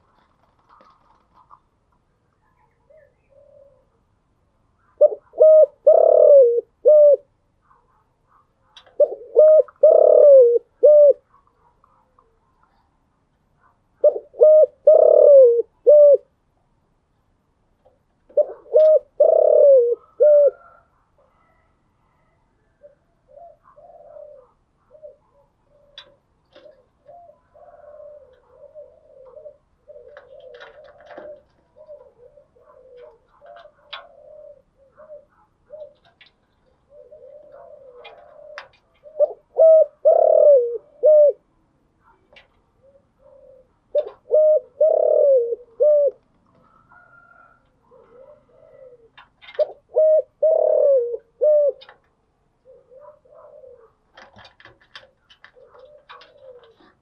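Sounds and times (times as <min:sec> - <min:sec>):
dove cooing: 0:02.6 - 0:04.2, 0:04.8 - 0:08.0, 0:08.6 - 0:12.9, 0:13.6 - 0:16.4, 0:17.9 - 0:57.0.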